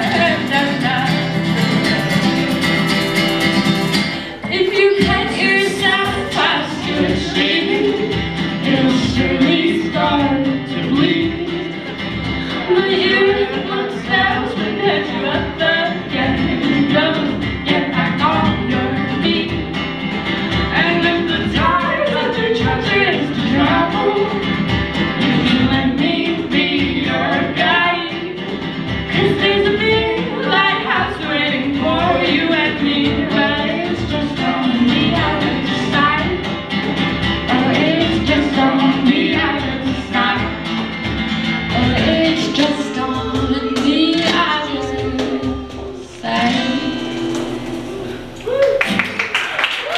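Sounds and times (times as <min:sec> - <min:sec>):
voices singing together: 0:00.0 - 0:02.3, 0:04.0 - 0:48.6
acoustic guitar: 0:00.0 - 0:49.9
cajon beat: 0:00.0 - 0:49.9.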